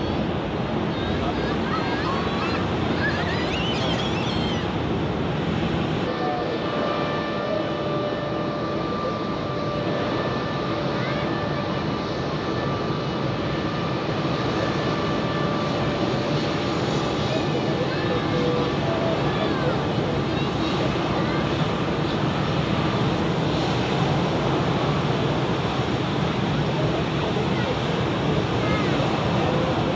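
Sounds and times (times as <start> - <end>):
jet engine whine: 0.0 - 29.9
jet engines rumbling: 0.0 - 29.9.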